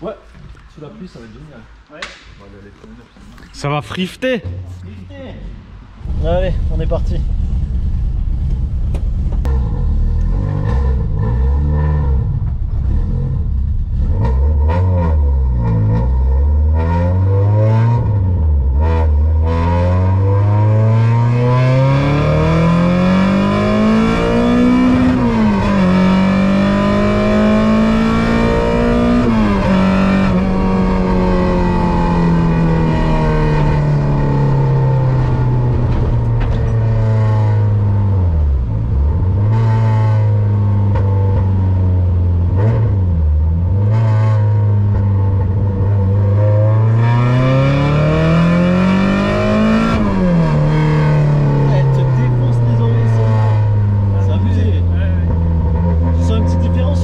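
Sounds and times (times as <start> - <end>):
car engine accelerating hard: 6.0 - 57.0.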